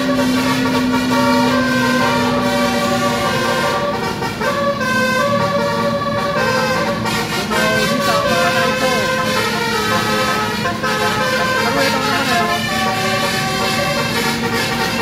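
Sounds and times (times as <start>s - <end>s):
musical air horn melody: 0.0s - 15.0s
traffic: 0.0s - 15.0s.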